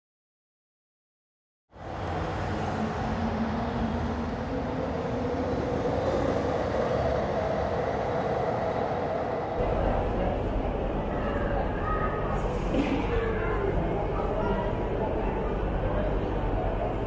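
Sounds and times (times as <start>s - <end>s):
electric train rumble and hum: 1.7s - 17.0s.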